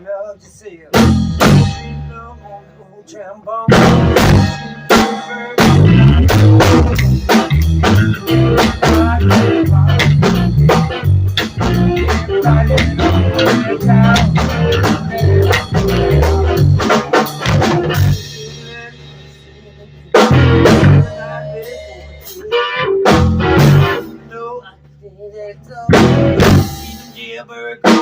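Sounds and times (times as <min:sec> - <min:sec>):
band with drums and guitar: 0:00.0 - 0:02.3, 0:03.6 - 0:28.0.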